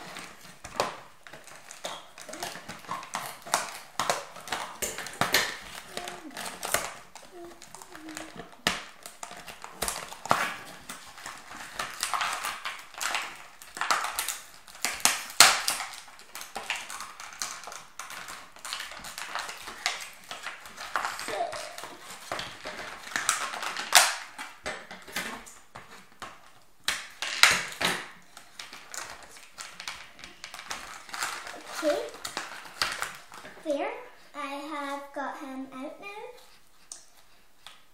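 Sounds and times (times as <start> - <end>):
packaging rustling and crinkling: 0.0 - 33.7.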